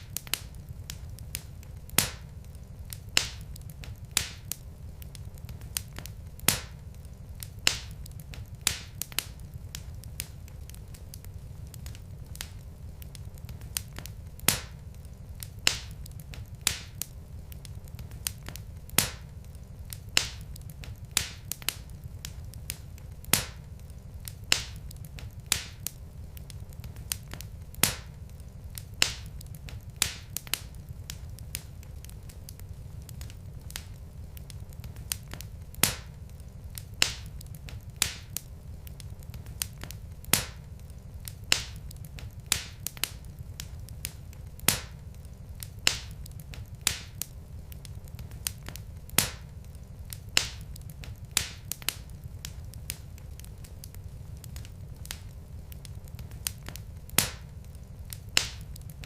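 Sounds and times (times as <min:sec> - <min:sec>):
low steady rumble: 0:00.0 - 0:59.0
wood fire crackling: 0:00.0 - 0:59.0.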